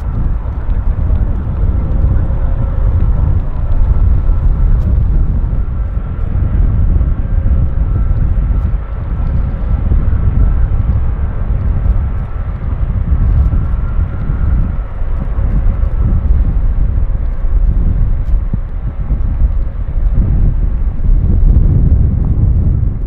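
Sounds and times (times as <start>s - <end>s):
faint steady whine: 0.0s - 23.0s
jet engines rumbling: 0.0s - 23.0s.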